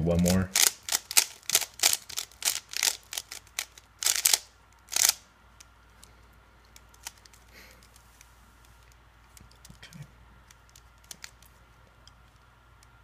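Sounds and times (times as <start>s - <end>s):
puzzle cube turning clicks: 0.3s - 6.1s, 6.7s - 8.1s, 8.8s - 12.5s.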